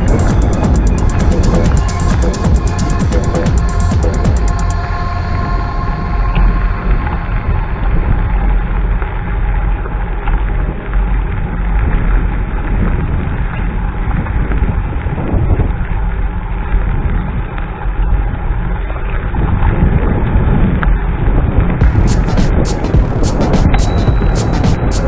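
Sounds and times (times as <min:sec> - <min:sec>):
road rumble: 0:00.0 - 0:19.4, 0:21.7 - 0:25.0
wind: 0:00.0 - 0:25.0.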